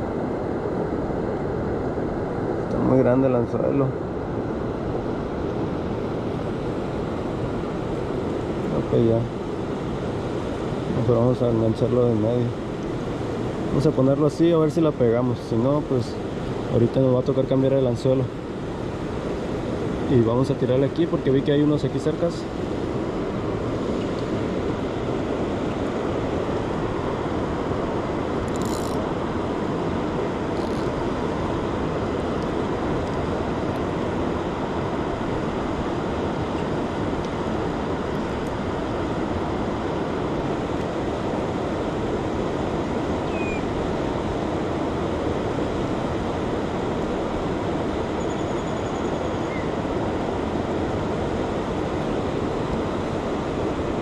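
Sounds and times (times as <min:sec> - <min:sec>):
surf rushing: 0:00.0 - 0:54.0
wind: 0:00.0 - 0:54.0.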